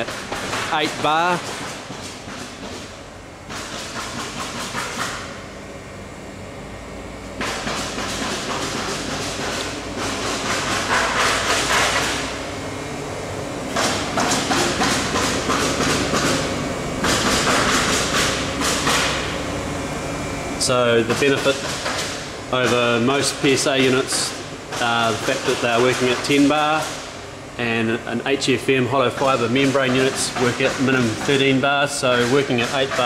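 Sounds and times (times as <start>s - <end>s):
air compressor humming: 0.0s - 33.0s.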